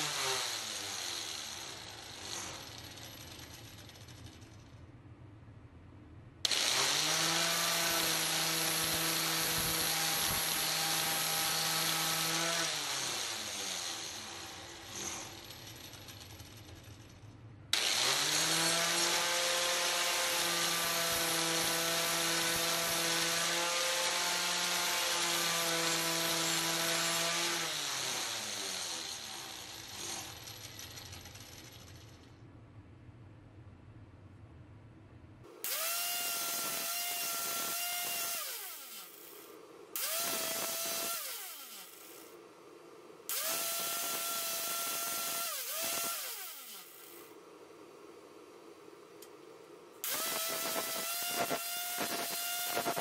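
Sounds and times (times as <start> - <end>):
angle grinder whining: 0.0 - 4.5, 6.5 - 16.8, 17.8 - 32.3, 35.6 - 42.4, 43.3 - 47.4, 50.0 - 53.0
grinder winding down: 0.0 - 4.7, 6.5 - 17.1, 17.8 - 32.3, 35.6 - 42.4, 43.3 - 47.4, 50.0 - 53.0.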